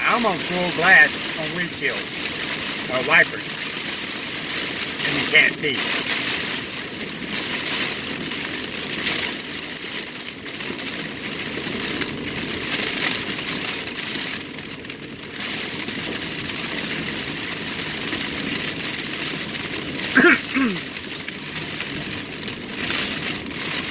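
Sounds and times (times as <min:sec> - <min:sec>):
car running noise: 0:00.0 - 0:23.9
heavy rain on car windshield: 0:00.0 - 0:23.9.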